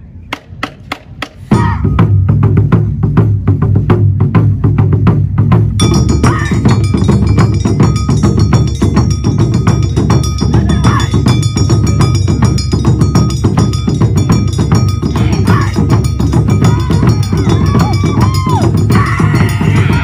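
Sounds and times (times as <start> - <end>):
taiko drums beating: 0.3 - 20.0.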